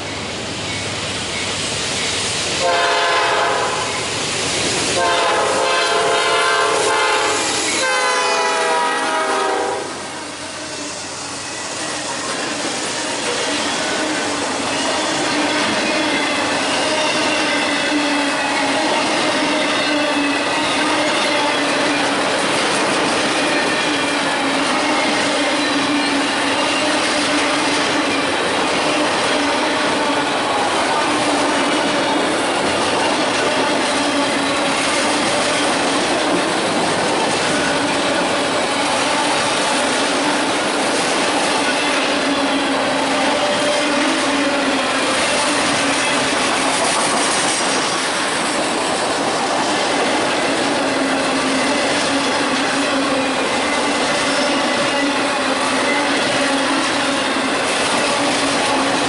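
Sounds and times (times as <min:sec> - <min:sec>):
steel wheels rushing on rail: 0:00.0 - 0:59.0.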